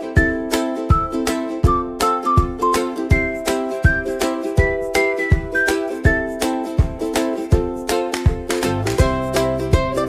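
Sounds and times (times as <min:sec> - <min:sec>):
plucked strings: 0:00.0 - 0:10.0
upbeat background music: 0:00.0 - 0:10.0
whistled melody: 0:00.0 - 0:10.0.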